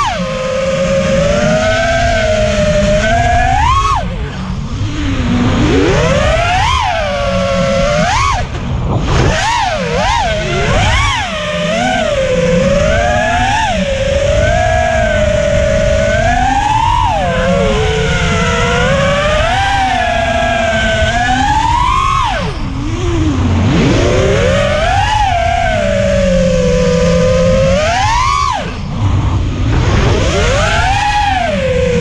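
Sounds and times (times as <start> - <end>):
low rumble of wind and prop wash: 0.0 - 32.0
quadcopter motors whining: 0.0 - 32.0.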